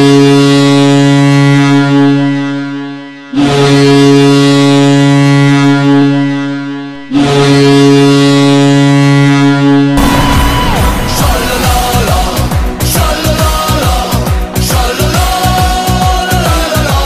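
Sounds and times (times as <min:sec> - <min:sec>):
goal horn blasts: 0:00.0 - 0:17.0.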